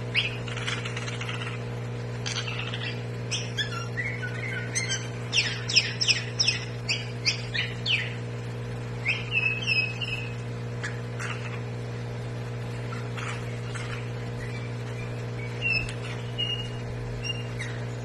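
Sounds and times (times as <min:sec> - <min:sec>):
bird chirps: 0:00.0 - 0:01.6, 0:02.2 - 0:08.2, 0:09.0 - 0:11.6, 0:12.9 - 0:18.0
bulbul whistled calls: 0:00.0 - 0:01.6, 0:02.2 - 0:08.2, 0:09.0 - 0:11.6, 0:12.9 - 0:18.0
steady low hum: 0:00.0 - 0:18.0.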